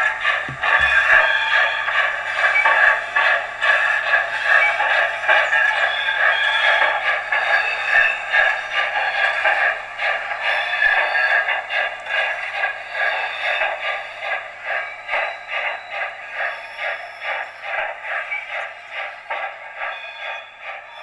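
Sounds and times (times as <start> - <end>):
model train clattering on track: 0.0 - 21.0.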